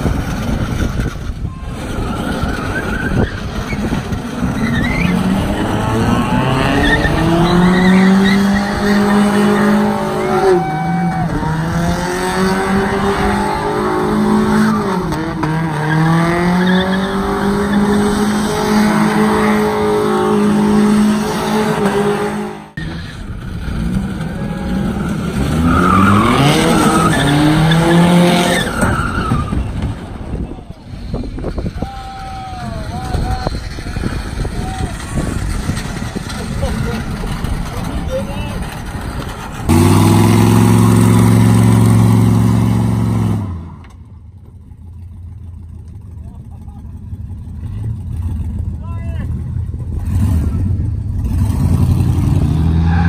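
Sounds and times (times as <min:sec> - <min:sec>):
car engine revving: 0:00.0 - 0:31.8, 0:32.5 - 0:44.0, 0:44.9 - 0:53.0
tyres skidding and squealing: 0:00.0 - 0:53.0.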